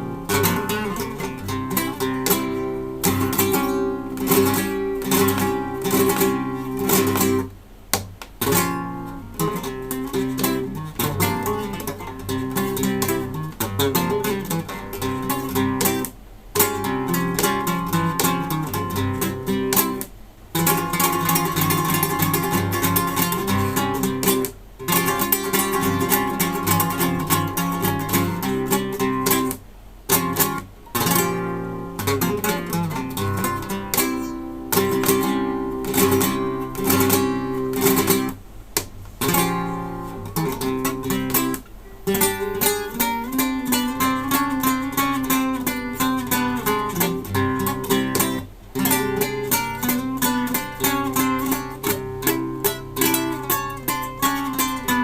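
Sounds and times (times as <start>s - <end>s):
fingerstyle acoustic guitar: 0.0s - 55.0s.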